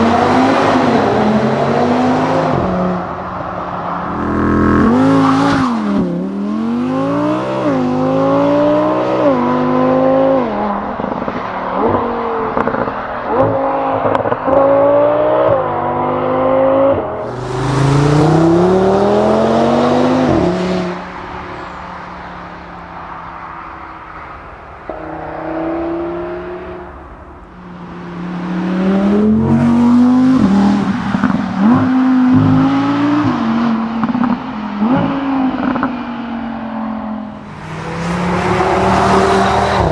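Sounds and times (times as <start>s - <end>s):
sports car accelerating through gears: 0.0s - 22.4s, 24.9s - 39.9s.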